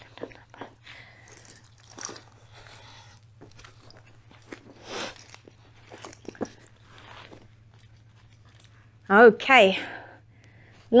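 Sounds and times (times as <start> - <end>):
rustling on an exercise mat: 0.0 - 9.3
faint steady hum: 0.0 - 11.0.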